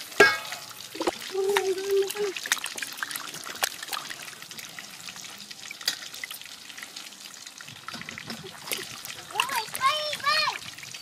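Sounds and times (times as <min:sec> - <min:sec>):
water sloshing in a metal basin: 0:00.0 - 0:11.0.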